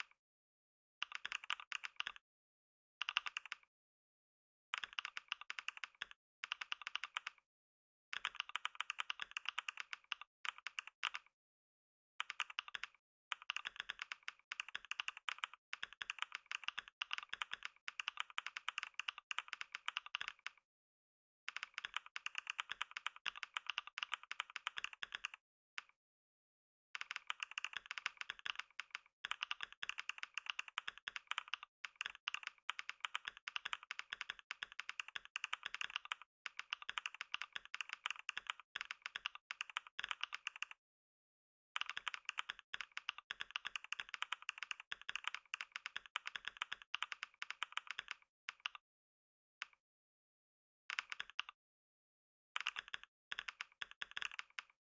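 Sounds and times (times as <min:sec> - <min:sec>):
fast typing on keyboard: 0:01.0 - 0:02.2, 0:03.0 - 0:03.7, 0:04.7 - 0:07.4, 0:08.1 - 0:11.3, 0:12.2 - 0:20.6, 0:21.5 - 0:26.0, 0:27.0 - 0:40.8, 0:41.8 - 0:48.8, 0:50.9 - 0:51.6, 0:52.6 - 0:54.8.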